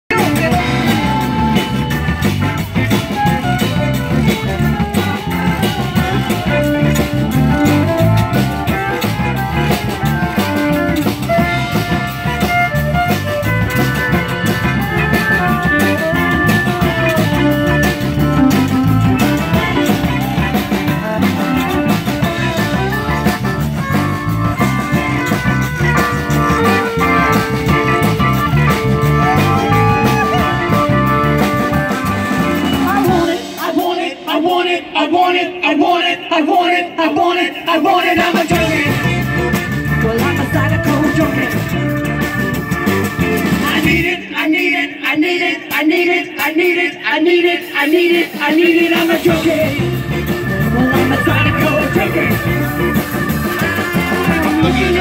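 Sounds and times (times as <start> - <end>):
live zydeco band playing: 0.1 - 55.0.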